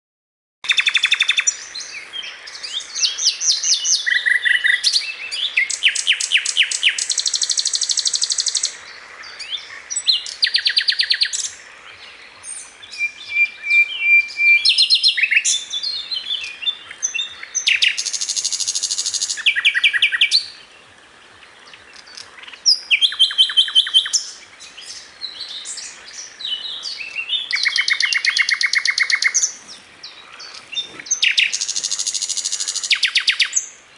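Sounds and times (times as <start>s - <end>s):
bird song trills and chirps: 0.6s - 33.9s.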